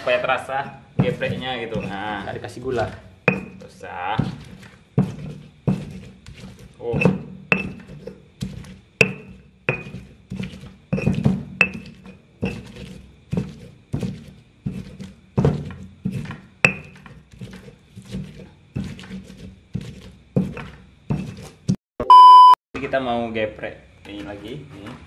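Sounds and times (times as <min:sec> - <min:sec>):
stone pestle pounding in mortar: 0:00.4 - 0:21.8.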